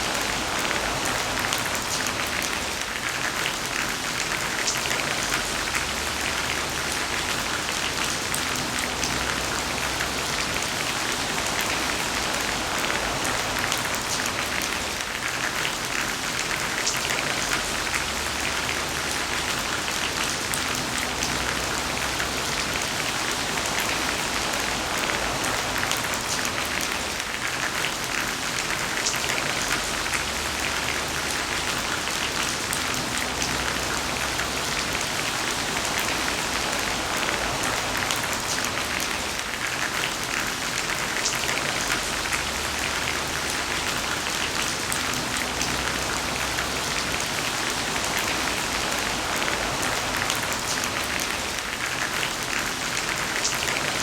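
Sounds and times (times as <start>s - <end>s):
heavy rain falling: 0.0s - 54.0s
raindrops ticking on a surface: 0.0s - 54.0s.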